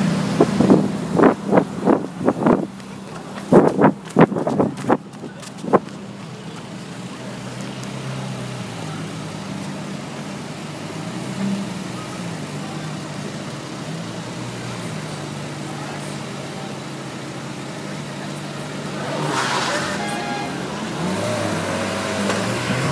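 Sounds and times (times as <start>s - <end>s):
car engine running at low revs: 0.0s - 22.9s.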